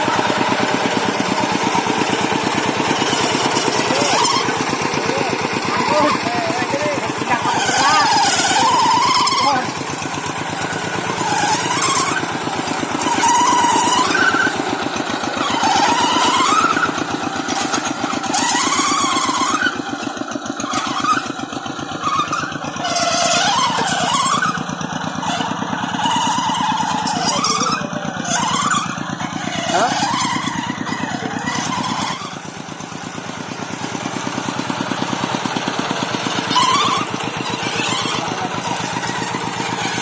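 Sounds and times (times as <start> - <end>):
tractor engine chugging: 0.0 - 40.0.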